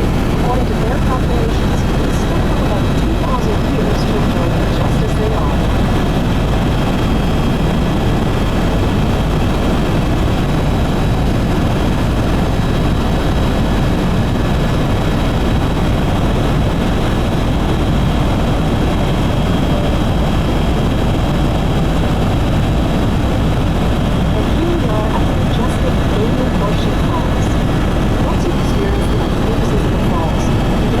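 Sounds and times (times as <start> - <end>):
faint high whine: 0.0 - 31.0
helicopter engine and rotor noise: 0.0 - 31.0.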